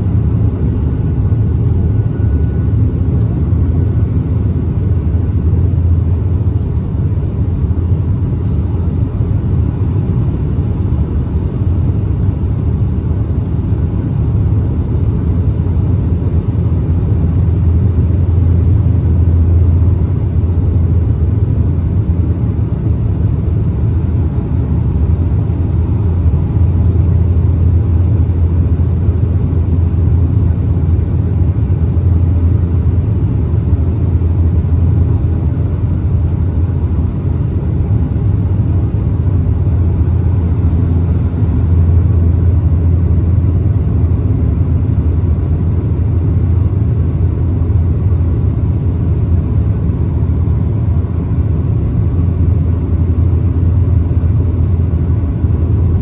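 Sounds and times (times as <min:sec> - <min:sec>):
turboprop engine drone in cabin: 0:00.0 - 0:56.0.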